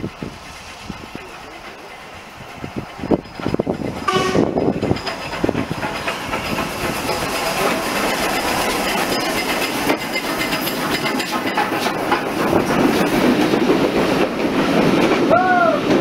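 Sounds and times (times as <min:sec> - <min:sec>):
steam locomotive running: 0:00.0 - 0:16.0
wheels clicking over rail joints: 0:00.9 - 0:16.0.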